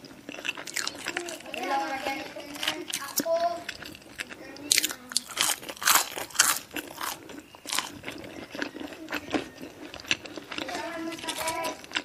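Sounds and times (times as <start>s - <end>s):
crunching fried chicken: 0.0s - 12.0s.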